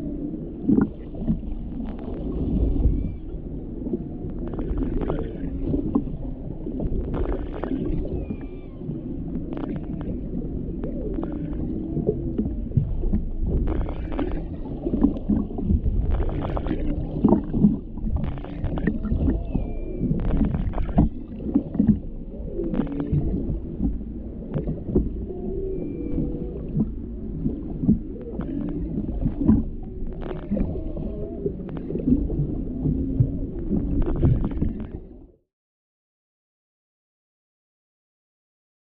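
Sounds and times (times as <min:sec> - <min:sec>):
whale moans and grunts: 0:00.0 - 0:35.4
low rumble of water: 0:00.0 - 0:35.5.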